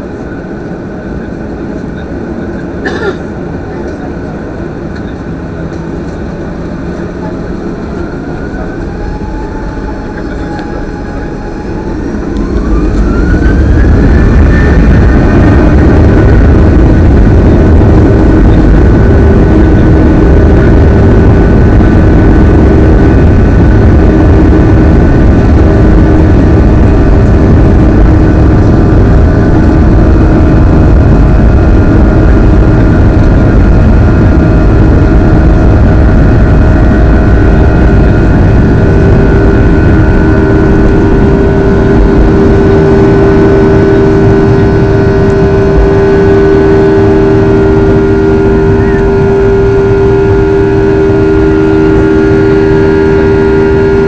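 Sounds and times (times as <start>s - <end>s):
jet engines spooling up: 0.0s - 54.0s.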